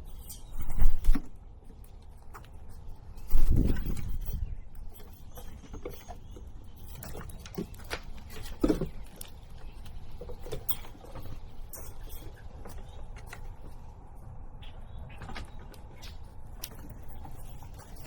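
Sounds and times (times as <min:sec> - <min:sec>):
light taps and scratches: 0:00.2 - 0:18.0.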